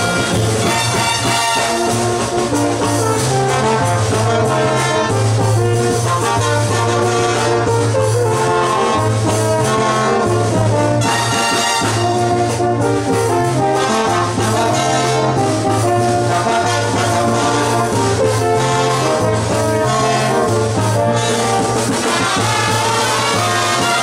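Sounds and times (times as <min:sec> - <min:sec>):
brass band playing: 0:00.0 - 0:24.0
sousaphone bass line: 0:00.0 - 0:24.0.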